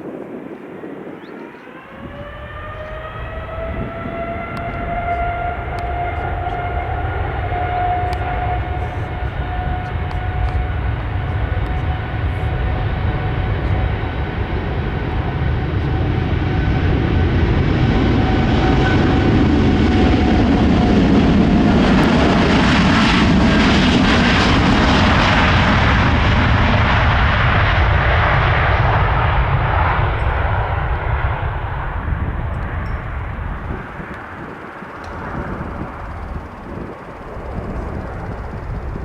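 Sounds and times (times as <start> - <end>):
jet engines spooling up: 0.0 - 39.0.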